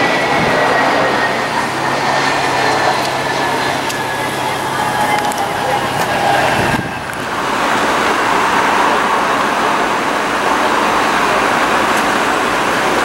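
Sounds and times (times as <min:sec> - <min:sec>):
jet engines roaring: 0:00.0 - 0:13.0
thin jet whine: 0:00.0 - 0:13.0.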